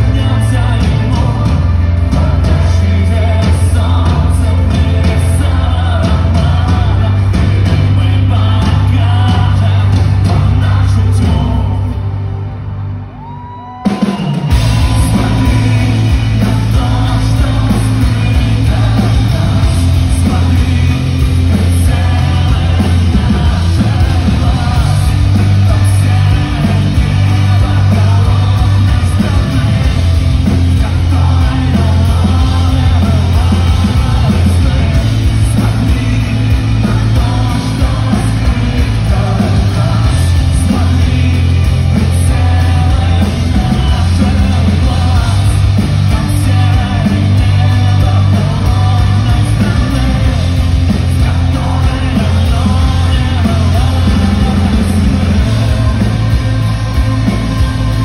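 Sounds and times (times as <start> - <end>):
man singing: 0.0 - 12.2, 13.9 - 58.0
drums: 0.0 - 58.0
heavy bass: 0.0 - 58.0
live rock band: 0.0 - 58.0.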